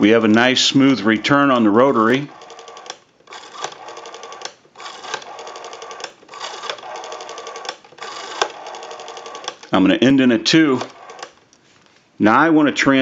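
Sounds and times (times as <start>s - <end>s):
rotary telephone dial whirring: 0.2s - 11.5s.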